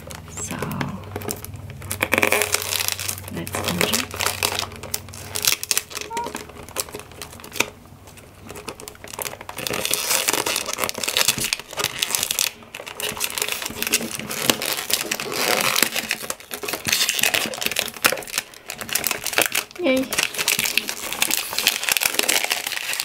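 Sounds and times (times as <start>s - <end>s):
plastic film crinkling: 0.0s - 23.0s.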